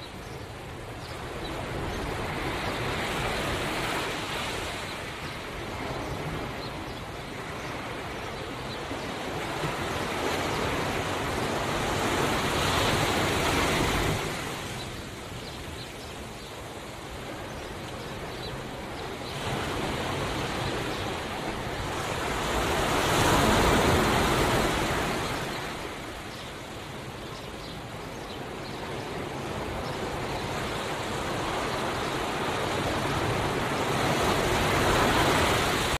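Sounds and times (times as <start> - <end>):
ocean waves on shore: 0.0 - 35.9.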